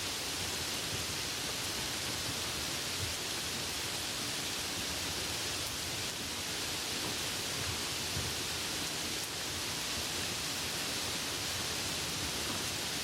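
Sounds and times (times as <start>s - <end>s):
light rain falling: 0.0s - 13.0s.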